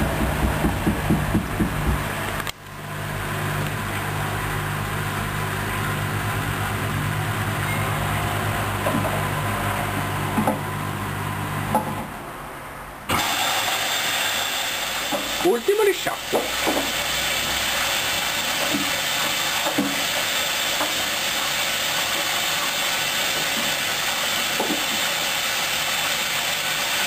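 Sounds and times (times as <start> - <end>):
washing machine motor and drum hum: 0.0 - 12.2, 13.1 - 27.0.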